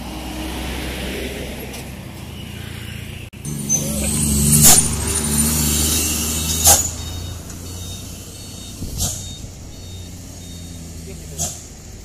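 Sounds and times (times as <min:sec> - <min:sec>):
diesel engine passing: 0:00.0 - 0:12.0.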